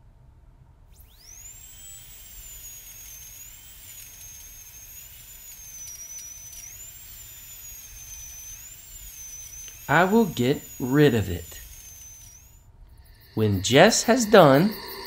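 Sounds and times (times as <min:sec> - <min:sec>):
dentist's drill whine: 0:00.9 - 0:15.0.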